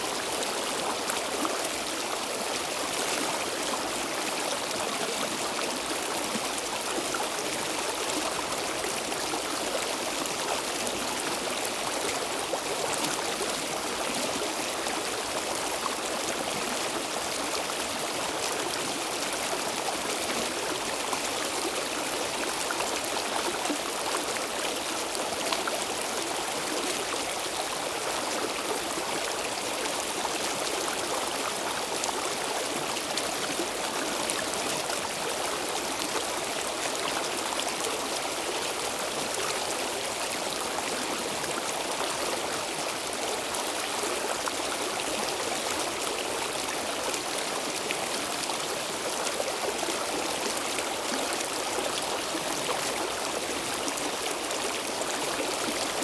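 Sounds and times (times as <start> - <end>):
stream water flowing over stones: 0.0 - 56.0.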